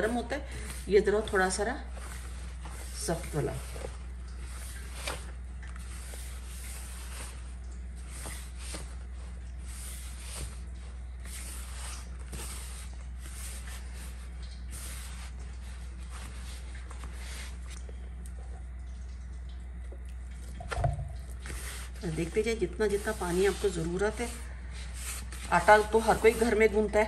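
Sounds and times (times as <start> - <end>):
hands squishing crumbly dough: 0.0 - 18.3, 19.9 - 27.0
steady low hum: 0.0 - 27.0.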